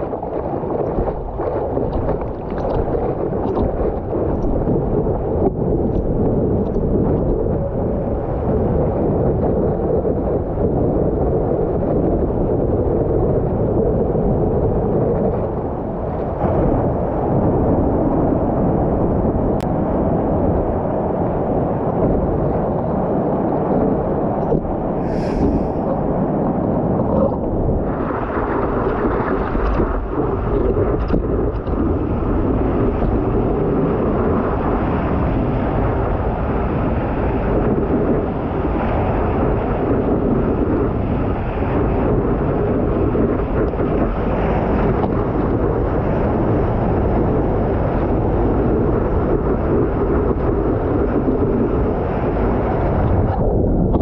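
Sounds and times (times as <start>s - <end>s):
wind buffeting the microphone: 0.0s - 54.0s.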